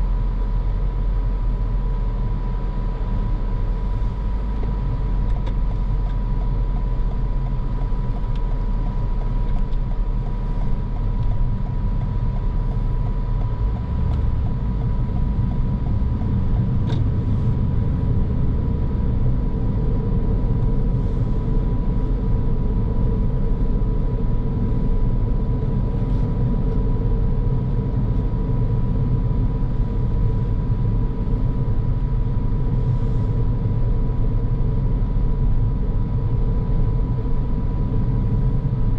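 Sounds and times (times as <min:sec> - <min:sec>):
car tyre and engine noise: 0:00.0 - 0:38.9
thin steady whine: 0:00.0 - 0:38.9.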